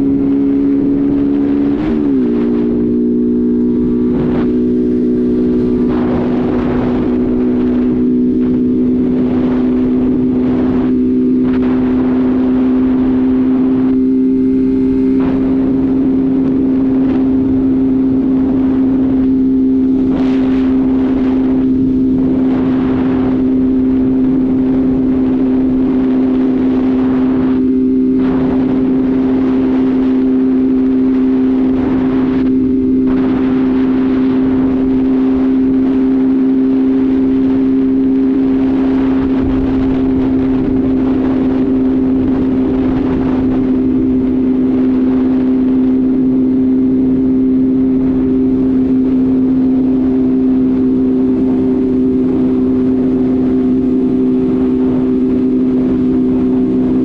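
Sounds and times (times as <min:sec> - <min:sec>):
motorcycle engine humming: 0:00.0 - 0:57.0
wind rushing past microphone: 0:00.0 - 0:57.0.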